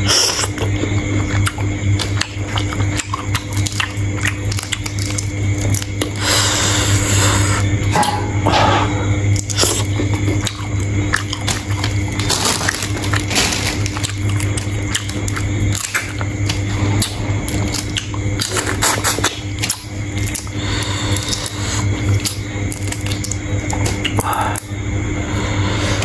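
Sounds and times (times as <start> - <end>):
wet chewing: 0.0 - 8.1, 9.3 - 24.7
low hum: 0.0 - 26.0.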